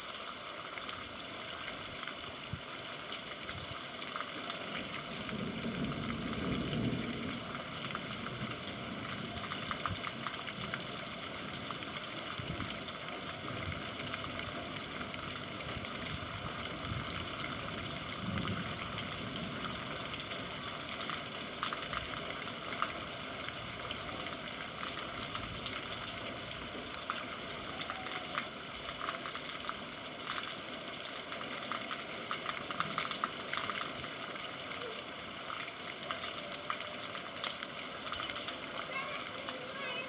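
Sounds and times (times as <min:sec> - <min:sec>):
steady rain on hard surfaces: 0:00.0 - 0:40.0.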